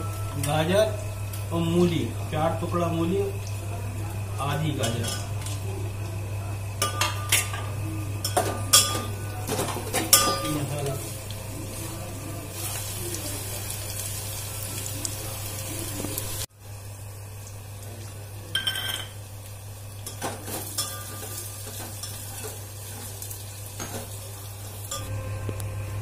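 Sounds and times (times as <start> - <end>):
vegetables sizzling in a pot: 0.0 - 26.0.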